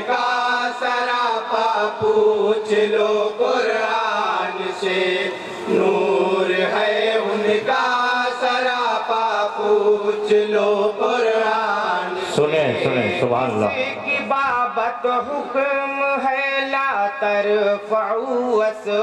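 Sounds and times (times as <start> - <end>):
men chanting in chorus: 0.0 - 19.0.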